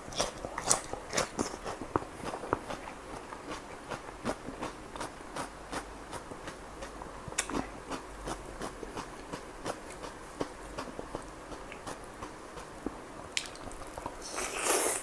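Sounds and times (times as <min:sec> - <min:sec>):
chewing clicks and smacks: 0:00.1 - 0:14.2.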